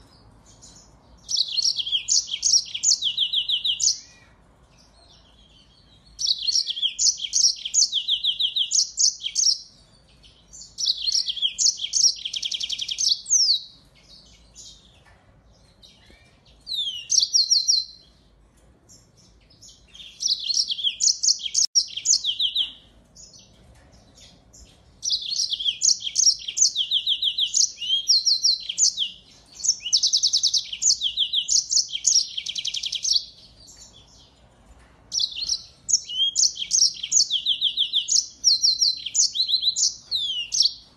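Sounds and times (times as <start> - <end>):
finch twittering trills: 0.0 - 18.3, 18.9 - 34.4, 35.1 - 40.9.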